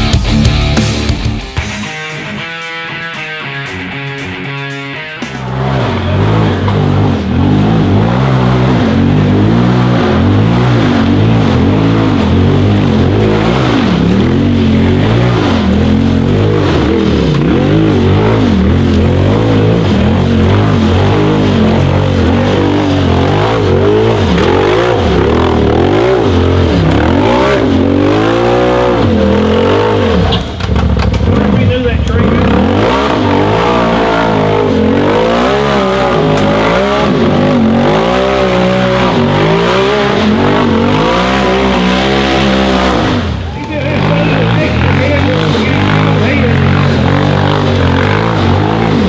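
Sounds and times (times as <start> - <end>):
buggy engine revving hard: 5.3 - 49.0.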